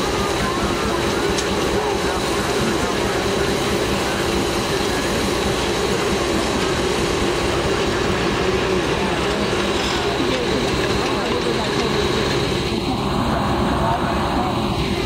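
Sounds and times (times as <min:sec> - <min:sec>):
steam engine driving sawmill: 0:00.0 - 0:15.0.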